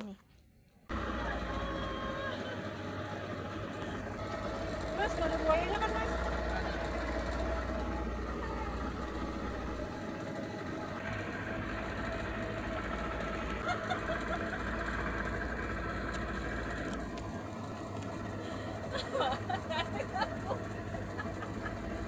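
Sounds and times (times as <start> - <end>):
outboard motor running: 0.9 - 22.0.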